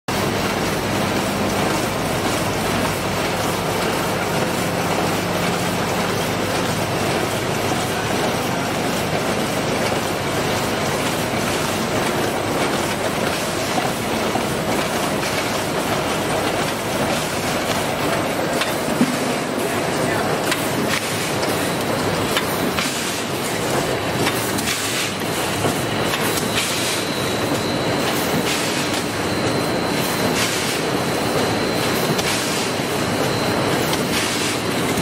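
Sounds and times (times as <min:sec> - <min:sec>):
packing machine rattling and whirring: 0:00.1 - 0:35.0.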